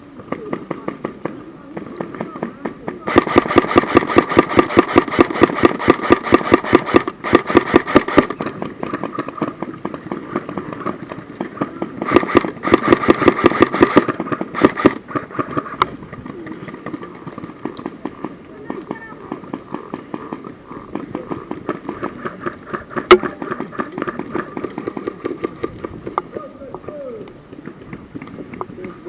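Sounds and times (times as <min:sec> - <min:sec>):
airsoft gun firing rapid clicks: 0:00.3 - 0:26.2.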